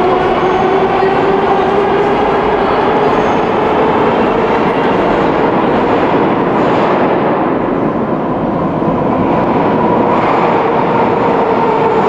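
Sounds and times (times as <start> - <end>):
train rail rumble: 0.0 - 12.0.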